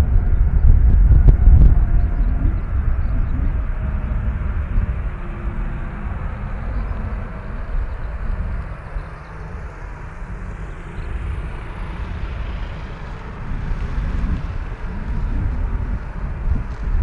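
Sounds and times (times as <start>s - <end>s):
distant jet engines hissing: 0.0s - 17.0s
wind buffeting microphone: 0.0s - 17.0s.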